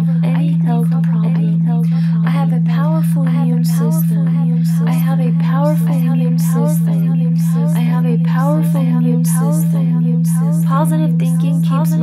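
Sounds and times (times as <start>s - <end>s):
loud low hum: 0.0s - 12.0s.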